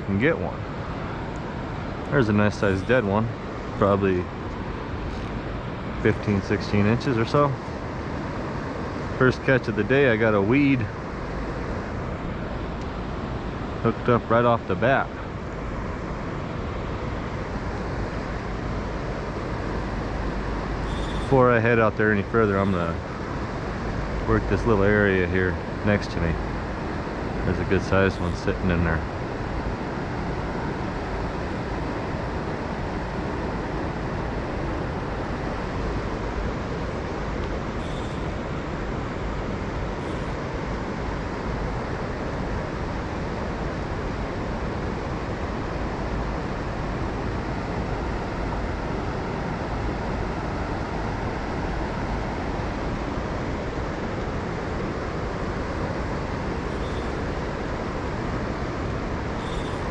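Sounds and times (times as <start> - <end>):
river current rushing: 0.1 - 59.9.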